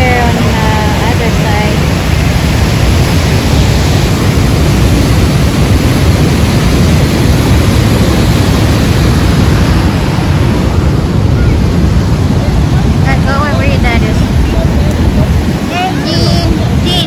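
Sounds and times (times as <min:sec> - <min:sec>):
waterfall roaring: 0:00.0 - 0:17.0
wind buffeting microphone: 0:00.0 - 0:17.0.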